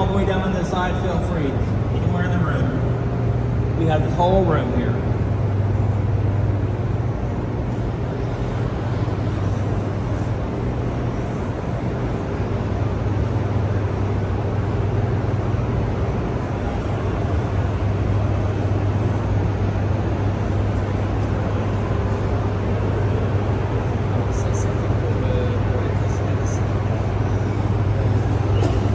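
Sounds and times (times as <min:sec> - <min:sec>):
generator hum: 0:00.0 - 0:28.9.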